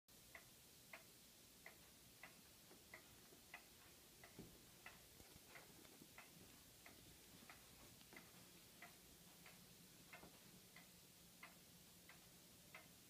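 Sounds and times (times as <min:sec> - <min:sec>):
faint ticking: 0:00.1 - 0:13.0.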